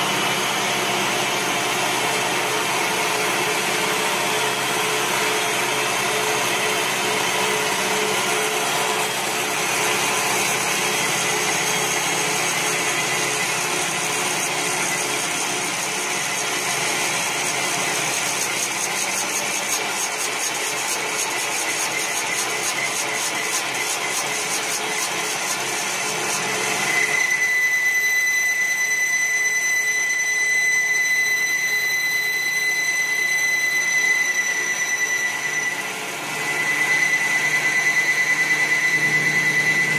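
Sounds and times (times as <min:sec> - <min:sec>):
cutter shaving wood: 0:00.0 - 0:29.0, 0:31.1 - 0:39.9
lathe machine whine: 0:00.0 - 0:39.9.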